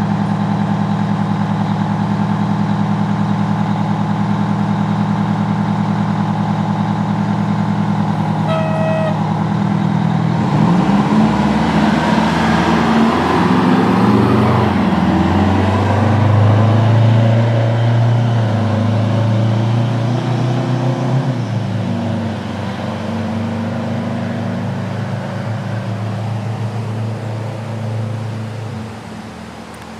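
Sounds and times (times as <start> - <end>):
vehicle engine running: 0.0 - 20.1, 21.4 - 29.9.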